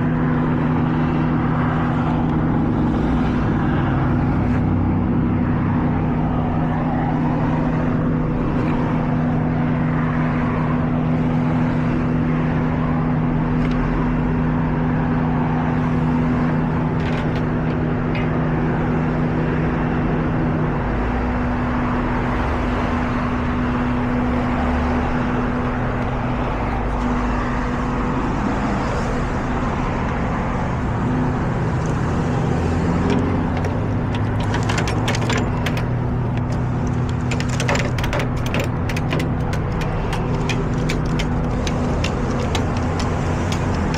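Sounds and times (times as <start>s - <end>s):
truck engine droning: 0.0s - 43.9s.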